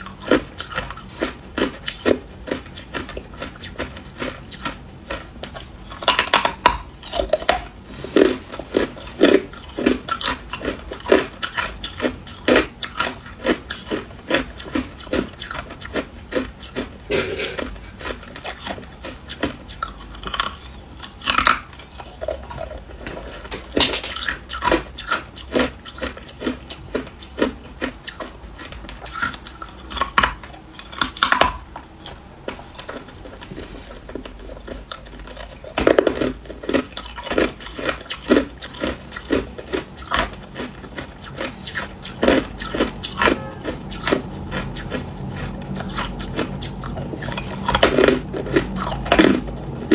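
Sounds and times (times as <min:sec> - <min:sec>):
ice crunching while chewed: 0:00.0 - 0:49.9.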